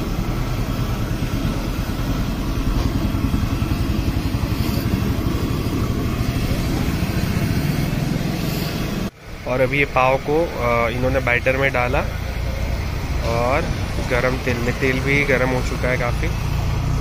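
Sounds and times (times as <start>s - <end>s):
low pulsing mechanical rumble: 0.0s - 17.0s.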